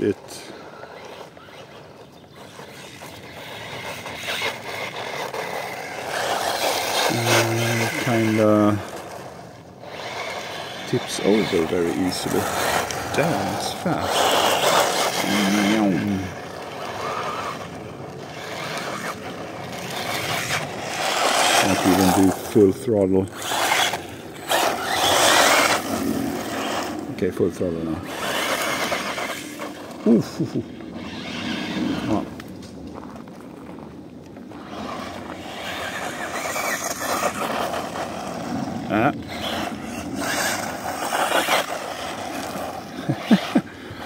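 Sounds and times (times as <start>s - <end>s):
tyres rushing on ground: 0.0s - 32.5s, 34.5s - 44.0s
electric motor whining: 0.0s - 32.6s, 34.4s - 44.0s.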